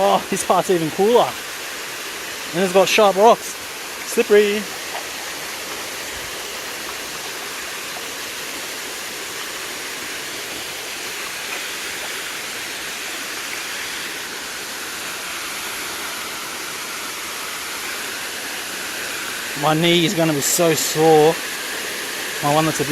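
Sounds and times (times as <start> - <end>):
creek water rushing over rocks: 0.0 - 22.9.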